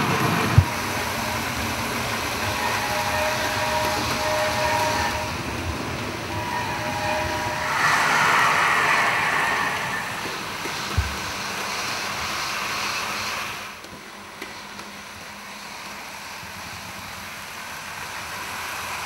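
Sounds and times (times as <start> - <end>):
model trains running on track: 0.0 - 19.0
train rushing noise from speakers: 0.0 - 19.0.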